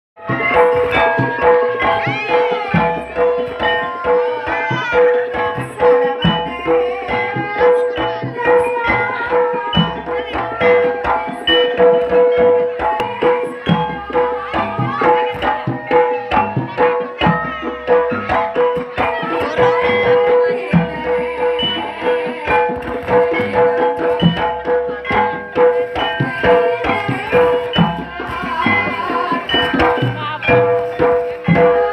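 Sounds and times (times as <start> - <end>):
gongs and metallophones: 0.2 - 31.9
hand drum rhythm: 0.2 - 31.9.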